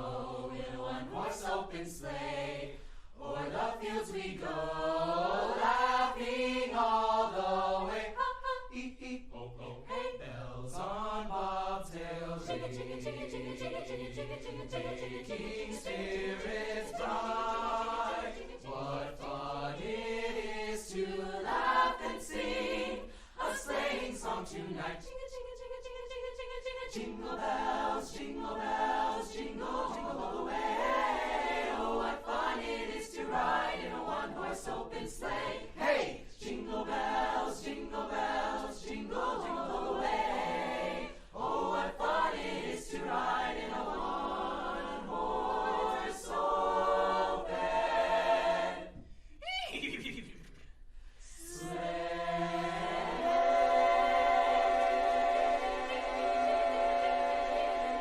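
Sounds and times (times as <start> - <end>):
choir singing in harmony: 0.0 - 49.2, 51.2 - 58.0.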